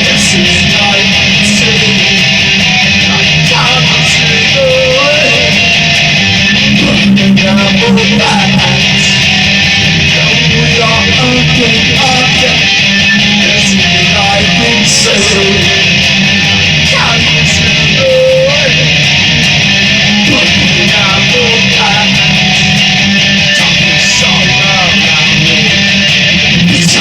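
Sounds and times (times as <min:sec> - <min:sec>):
distorted electric guitar melody: 0:00.0 - 0:27.0.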